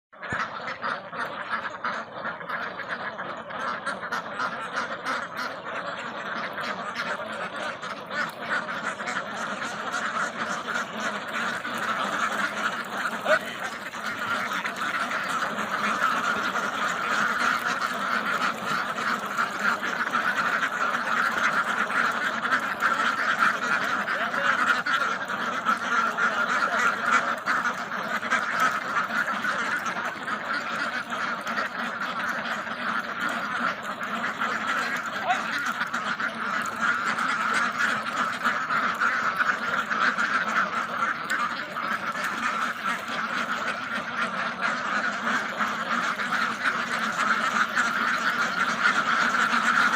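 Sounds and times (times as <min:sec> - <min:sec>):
ducks quacking: 0:00.1 - 0:49.9.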